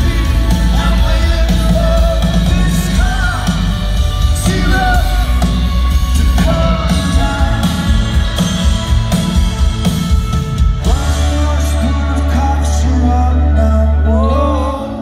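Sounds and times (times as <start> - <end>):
person singing: 0.0 - 9.2, 10.8 - 15.0
drums: 0.0 - 15.0
electric guitars: 0.0 - 15.0
heavy bass: 0.0 - 15.0.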